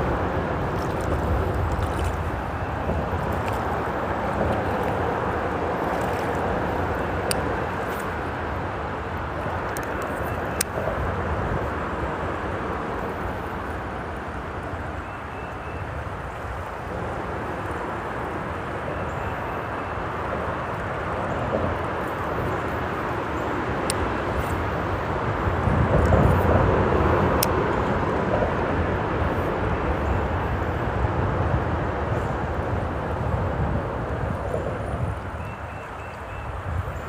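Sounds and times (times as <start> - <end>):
freeway traffic rumble: 0.0 - 37.0.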